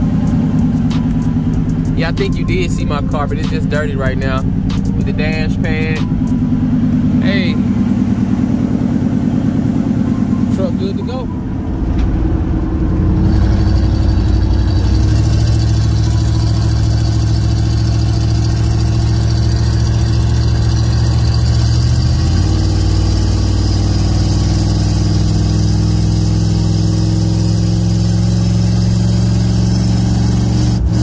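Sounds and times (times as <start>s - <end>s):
pickup engine and exhaust droning: 0.0s - 31.0s.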